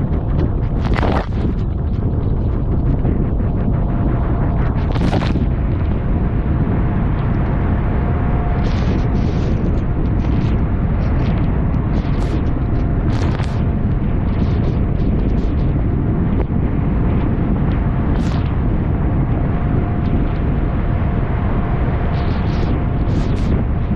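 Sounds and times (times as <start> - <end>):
spray and waves splashing hull: 0.0 - 7.7, 8.4 - 23.9
wind buffeting microphone: 0.0 - 23.9
faint engine tone: 3.2 - 15.5, 16.8 - 23.9.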